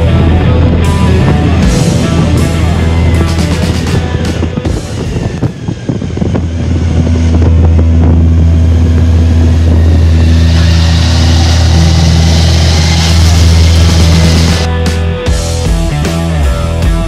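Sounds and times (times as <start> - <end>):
rushing noise: 0.0 - 15.7
motorcycle engine running: 0.0 - 17.0.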